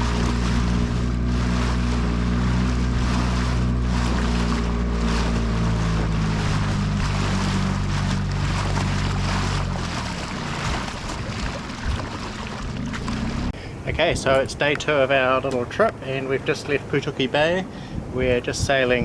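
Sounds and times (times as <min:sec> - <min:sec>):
boat engine running: 0:00.0 - 0:19.0
water rushing: 0:00.0 - 0:19.0.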